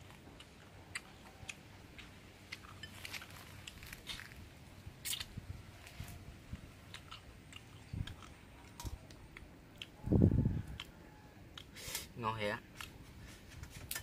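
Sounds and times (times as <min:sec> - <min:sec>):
chewing crunchy food: 0:00.0 - 0:10.0, 0:10.6 - 0:11.8.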